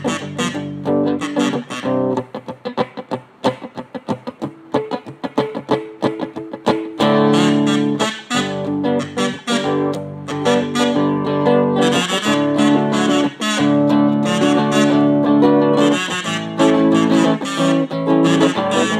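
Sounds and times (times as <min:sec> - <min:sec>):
guitar playing: 0:00.0 - 0:18.9.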